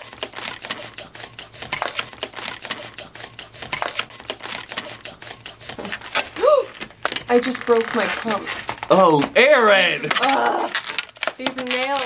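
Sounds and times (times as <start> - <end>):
balloons squeaking and crinkling: 0.0 - 12.0.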